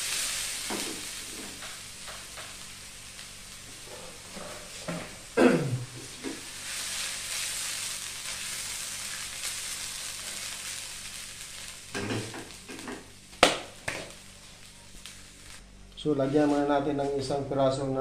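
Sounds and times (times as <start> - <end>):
food sizzling in oil: 0.0 - 15.6.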